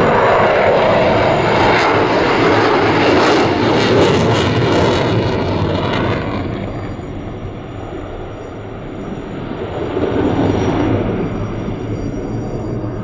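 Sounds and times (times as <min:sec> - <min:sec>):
fighter jet engine roar: 0:00.0 - 0:13.0.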